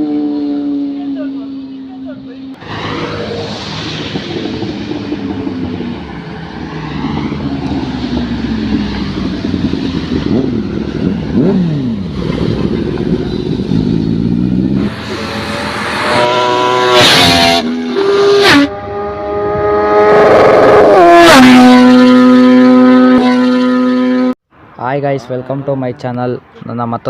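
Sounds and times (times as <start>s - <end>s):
motorcycle engines revving and passing: 0.0s - 24.4s
high-pitched engine revving hard: 2.6s - 24.4s.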